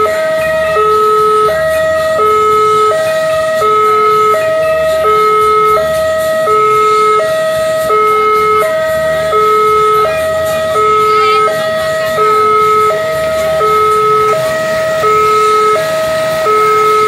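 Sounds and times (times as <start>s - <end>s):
level crossing two-tone alarm: 0.0s - 17.0s.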